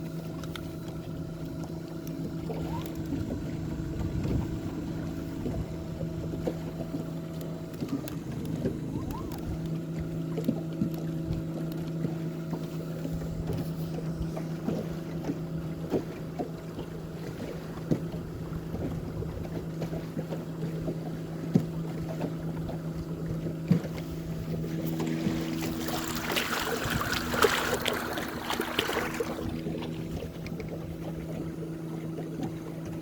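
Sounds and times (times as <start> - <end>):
boat motor humming: 0.0 - 33.0
wind: 0.0 - 33.0.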